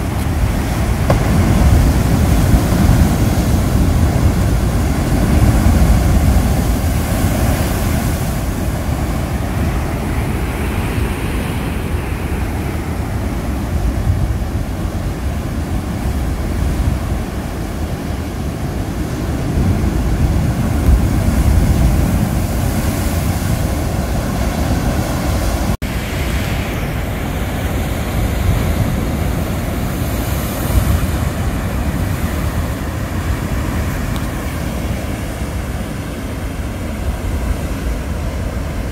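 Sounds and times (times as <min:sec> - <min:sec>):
ocean surf breaking on rocks: 0:00.0 - 0:38.9
wind rumble on microphone: 0:00.0 - 0:38.9.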